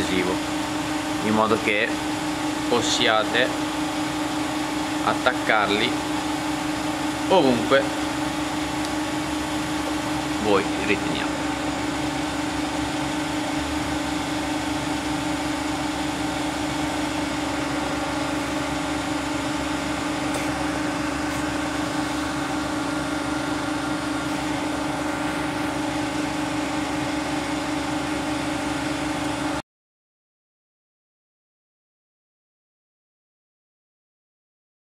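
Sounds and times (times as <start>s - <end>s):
machinery humming: 0.0s - 29.6s.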